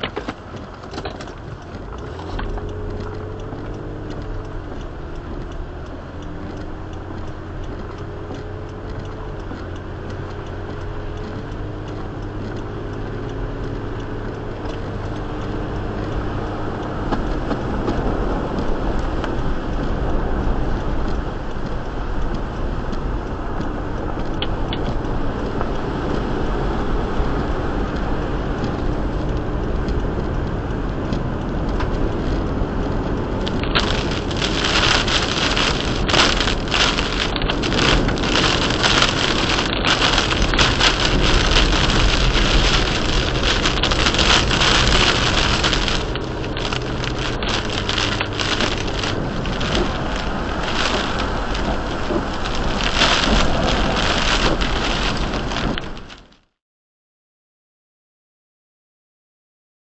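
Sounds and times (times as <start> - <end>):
car engine and tyre noise: 0.0 - 56.6
faint wavering engine hum: 1.8 - 55.6.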